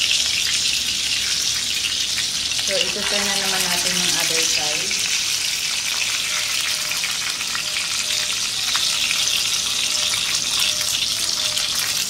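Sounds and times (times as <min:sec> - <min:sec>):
pork sizzling in fat: 0:00.0 - 0:12.0.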